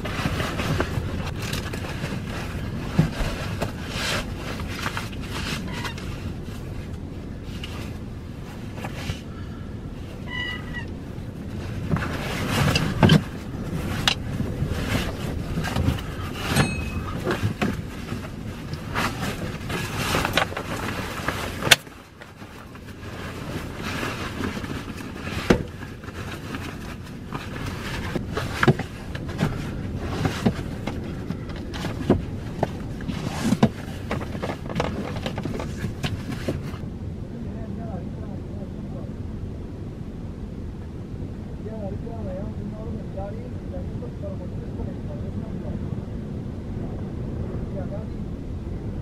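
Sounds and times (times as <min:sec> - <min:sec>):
gusty wind buffeting car: 0:00.0 - 0:49.0.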